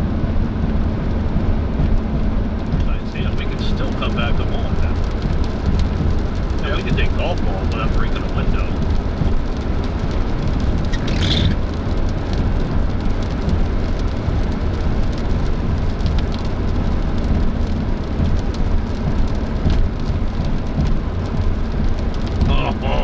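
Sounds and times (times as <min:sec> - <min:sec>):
rain ticking on car roof: 0:00.0 - 0:23.0
road and engine rumble: 0:00.0 - 0:23.0.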